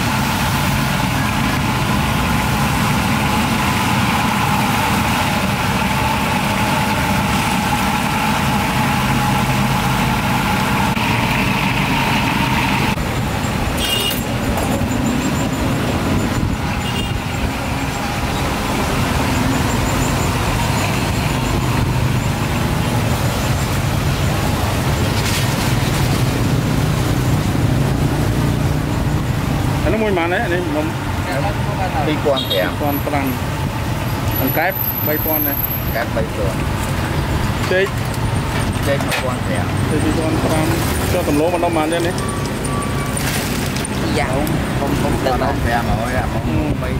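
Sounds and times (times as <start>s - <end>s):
road noise: 0.0s - 46.9s
vehicle engine humming: 0.0s - 46.9s.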